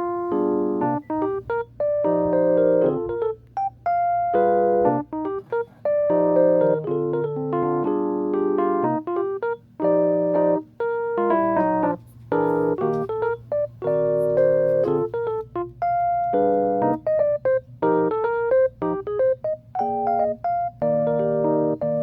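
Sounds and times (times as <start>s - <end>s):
soft electric piano music: 0.0s - 22.0s.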